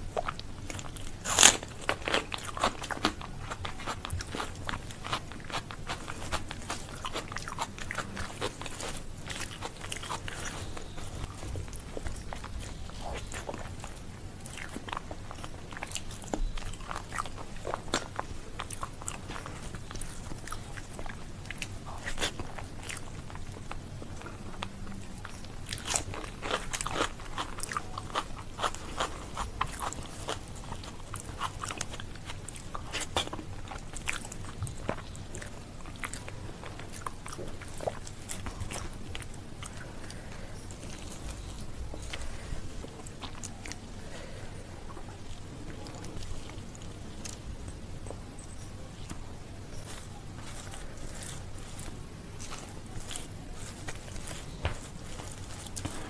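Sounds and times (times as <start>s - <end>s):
chewing and wet mouth sounds: 0.0s - 56.0s
rice squishing by hand: 0.0s - 56.0s.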